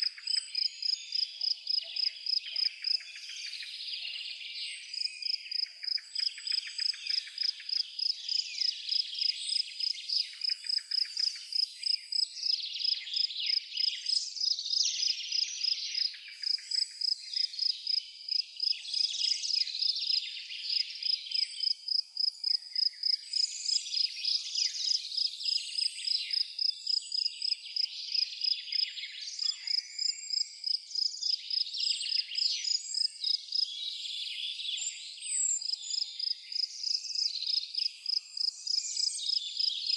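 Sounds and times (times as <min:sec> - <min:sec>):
cricket chirping: 0:00.0 - 0:03.8, 0:04.9 - 0:33.7, 0:34.9 - 0:39.9
songbirds twittering and calling: 0:00.0 - 0:39.9.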